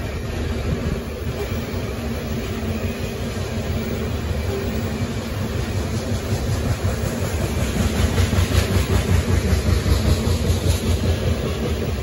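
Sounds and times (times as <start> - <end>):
steel wheels rumbling on rail: 0.0 - 12.0.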